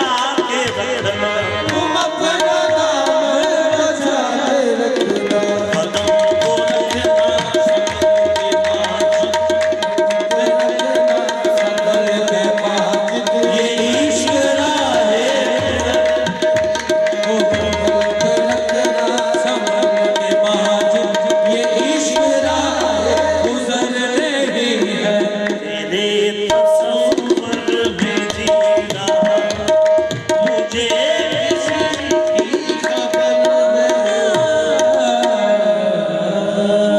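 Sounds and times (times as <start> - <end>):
fast tabla drumming: 0.0 - 35.9.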